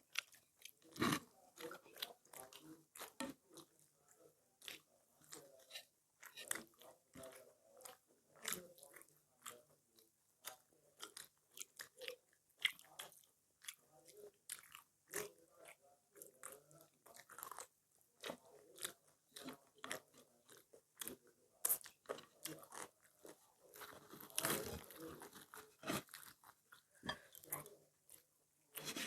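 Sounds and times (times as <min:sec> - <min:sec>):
people chewing crunchy food: 0:00.0 - 0:29.0.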